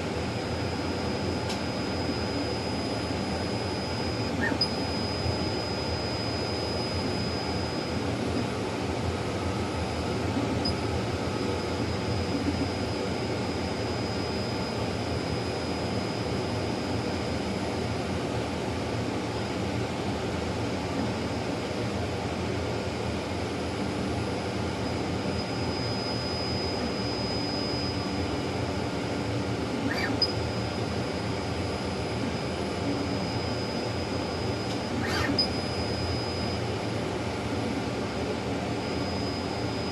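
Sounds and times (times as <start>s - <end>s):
laser printer whirring: 0.0s - 39.9s.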